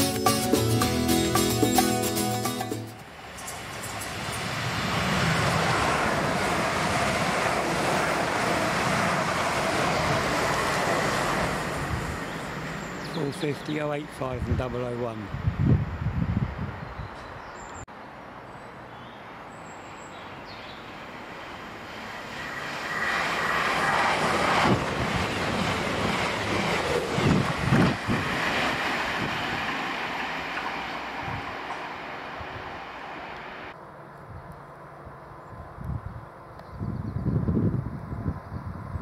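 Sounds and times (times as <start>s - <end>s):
train passing at speed: 0.0s - 36.5s.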